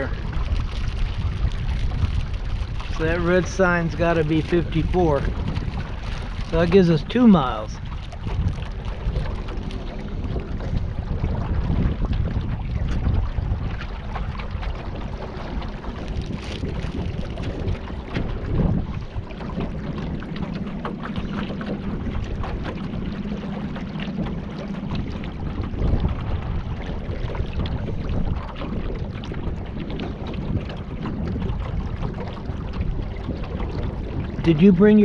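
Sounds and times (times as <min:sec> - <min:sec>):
water rushing along boat hull: 0:00.0 - 0:35.0
wind buffeting microphone: 0:00.0 - 0:35.0.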